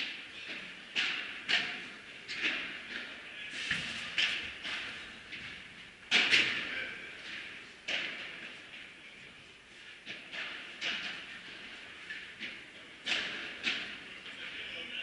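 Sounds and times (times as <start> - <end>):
rackets striking ball: 0.0 - 9.0, 10.0 - 14.3.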